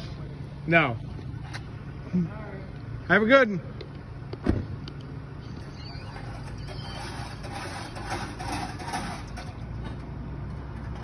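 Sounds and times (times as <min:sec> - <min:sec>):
truck engine hum: 0:00.0 - 0:11.0.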